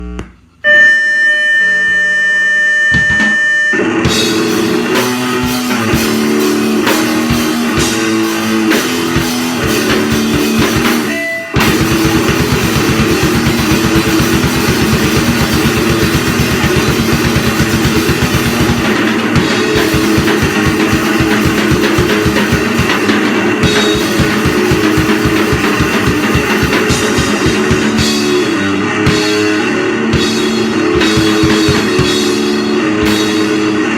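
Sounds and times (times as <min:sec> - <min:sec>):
distorted guitars: 0:00.0 - 0:33.9
guitar feedback tone: 0:00.0 - 0:33.9
very fast drumming: 0:04.0 - 0:33.9.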